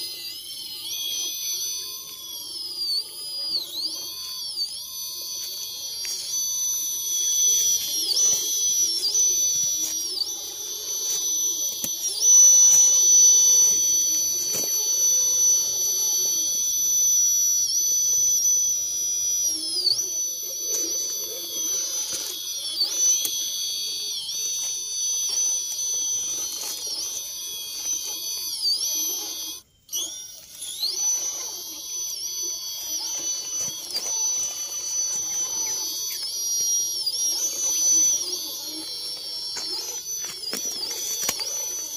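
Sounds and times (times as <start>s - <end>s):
electric motor whine: 0.0s - 41.9s.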